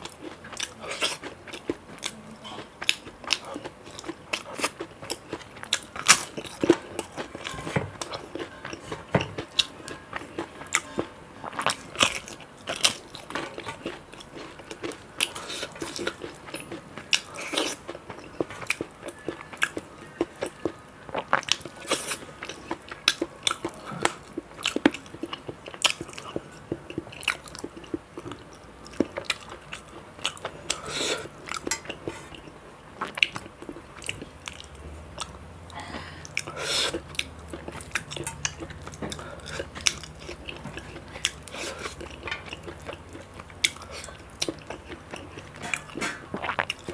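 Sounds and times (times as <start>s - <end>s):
crunching and chewing crisp food: 0.0s - 35.5s, 36.2s - 46.9s.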